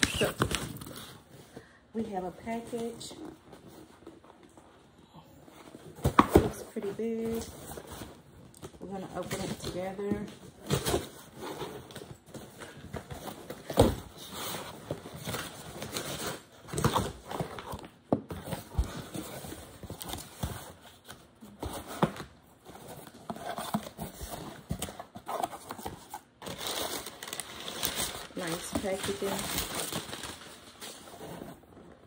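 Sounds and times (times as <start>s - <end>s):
packing paper rustling: 0.0s - 1.6s, 7.0s - 32.0s.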